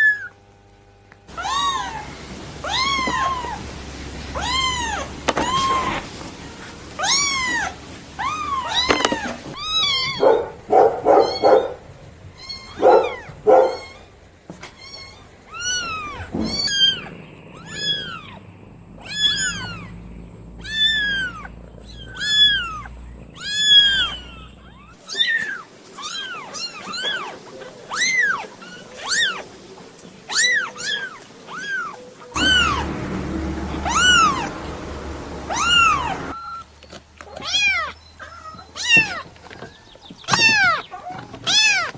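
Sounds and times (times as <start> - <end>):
kittens meowing: 1.3 - 29.6, 30.3 - 39.4, 40.3 - 41.9.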